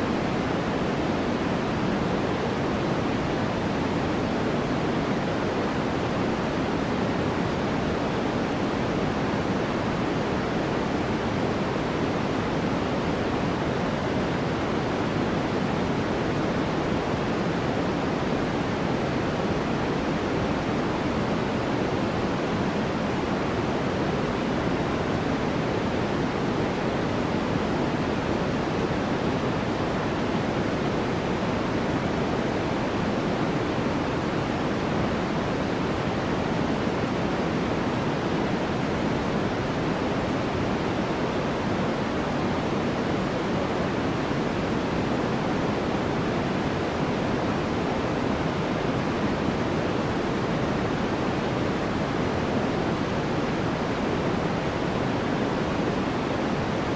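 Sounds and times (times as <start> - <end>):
deep white noise hiss: 0.0 - 56.9.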